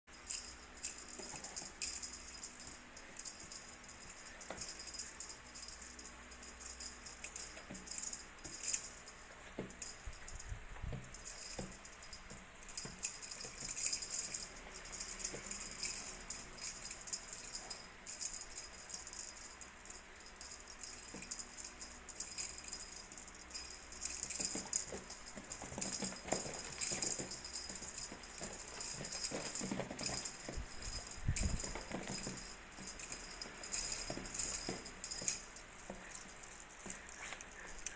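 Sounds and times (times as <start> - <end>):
small bell jingling and rattling: 0.1 - 37.9.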